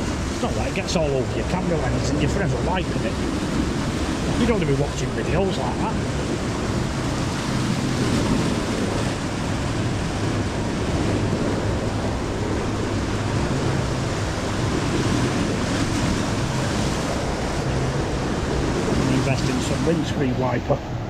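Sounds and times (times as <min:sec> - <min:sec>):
surf washing up a sea wall: 0:00.0 - 0:21.0
wind buffeting the microphone: 0:00.0 - 0:21.0.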